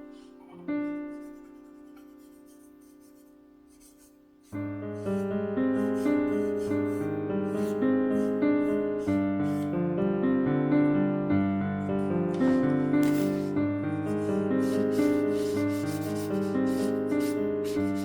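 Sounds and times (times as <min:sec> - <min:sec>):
gentle piano piece: 0:00.0 - 0:18.0.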